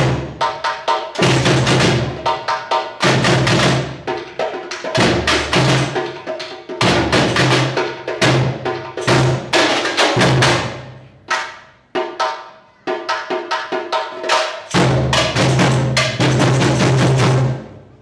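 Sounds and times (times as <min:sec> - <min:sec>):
smaller drums: 0:00.0 - 0:18.0.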